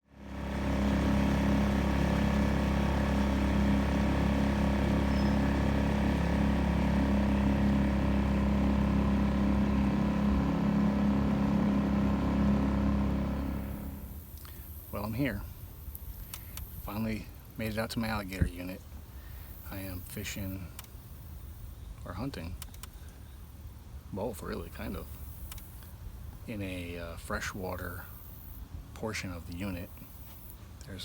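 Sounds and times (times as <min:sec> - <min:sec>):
engine running with low rumble: 0:00.0 - 0:31.0.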